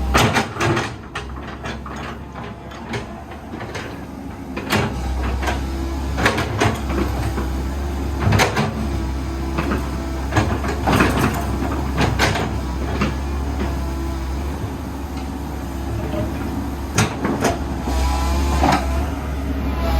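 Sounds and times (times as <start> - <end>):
excavator diesel engine humming: 0.0 - 19.9.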